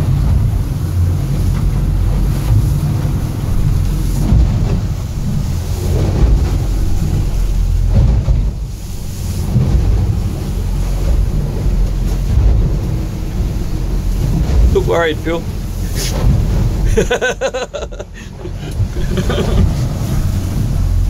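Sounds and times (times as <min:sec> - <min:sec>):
boat hull thumping on waves: 0:00.0 - 0:21.0
low rumble of hull water and wind: 0:00.0 - 0:21.0.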